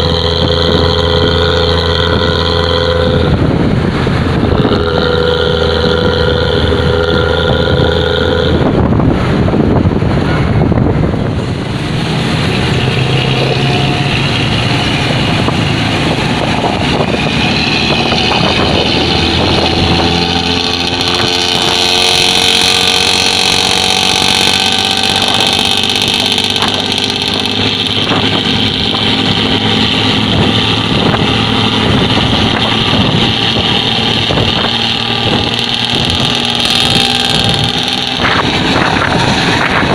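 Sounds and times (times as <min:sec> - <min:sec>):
bus diesel engine revving: 0:00.0 - 0:39.9
rush of noise: 0:00.0 - 0:39.9.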